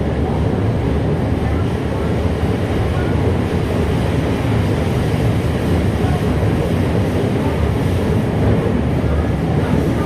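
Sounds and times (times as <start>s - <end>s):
subway train rumbling in tunnel: 0.0s - 10.0s.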